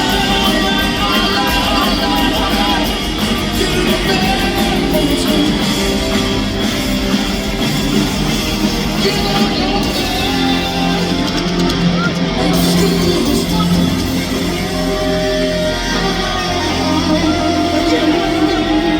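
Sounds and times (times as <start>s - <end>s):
electric guitar: 0.0s - 18.9s
live hard rock band: 0.0s - 18.9s.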